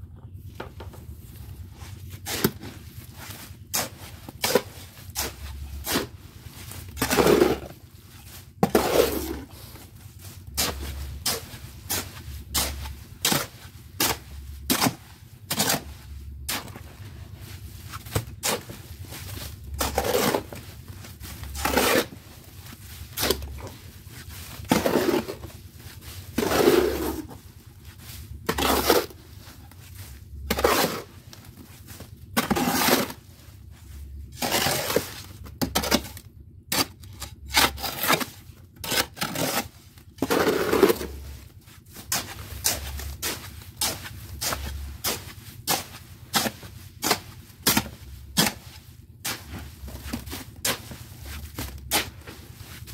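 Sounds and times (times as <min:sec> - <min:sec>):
hoe chopping mortar in wheelbarrow: 0:01.7 - 0:33.4, 0:34.3 - 0:52.9.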